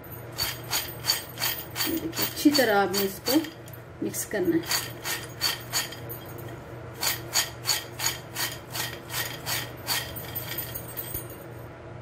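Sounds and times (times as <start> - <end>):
fried pasta rattling in shaken bowl: 0.0 - 3.7, 4.5 - 11.4.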